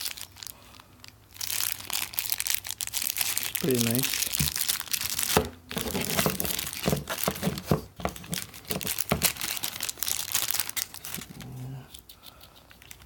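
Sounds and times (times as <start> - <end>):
packaging crinkling: 0.0 - 11.6.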